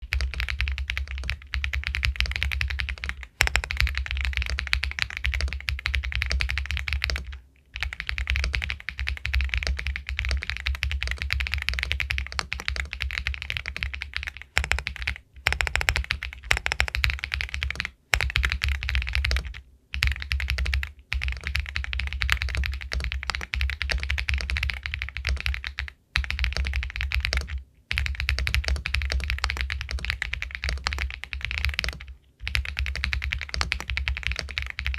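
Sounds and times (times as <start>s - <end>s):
fast mechanical keyboard typing: 0.0s - 34.9s.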